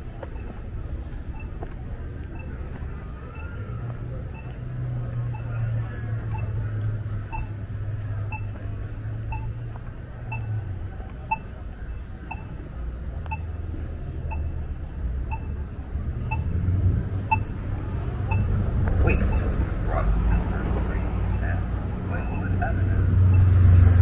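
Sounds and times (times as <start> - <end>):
idling street traffic rumble: 0.0 - 24.0
crossing signal beeps: 0.2 - 14.6, 15.3 - 16.6, 17.2 - 23.8.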